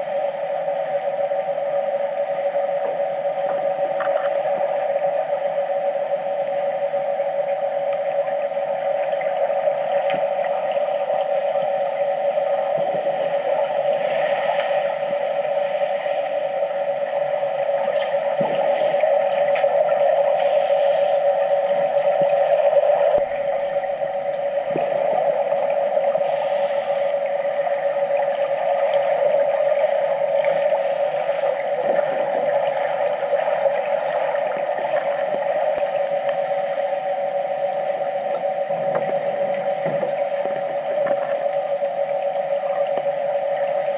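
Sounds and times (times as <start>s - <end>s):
underwater hum: 0.0s - 43.9s.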